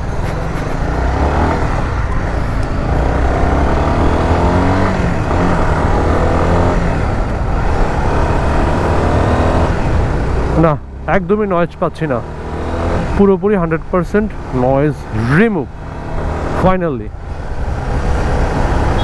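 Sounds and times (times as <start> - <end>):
motorcycle accelerating through gears: 0.0 - 19.0.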